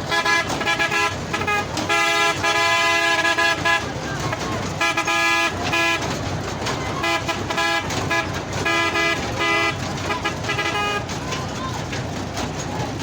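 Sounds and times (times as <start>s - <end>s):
mini train horn tooting: 0.0s - 11.6s
low engine rumble: 0.0s - 13.0s.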